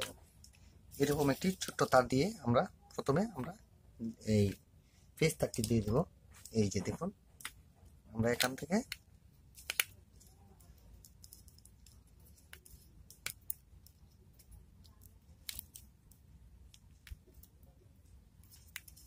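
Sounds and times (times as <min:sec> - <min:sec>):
wire being handled: 0:00.0 - 0:02.2, 0:05.2 - 0:19.0.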